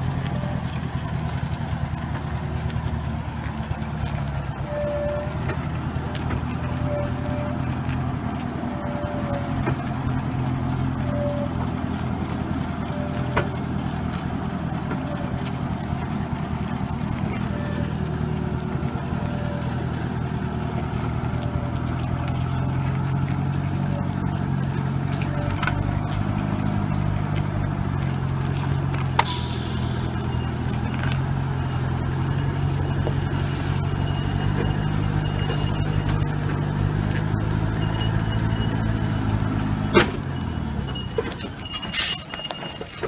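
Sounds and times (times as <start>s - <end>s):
heavy truck engine running: 0.0s - 43.0s.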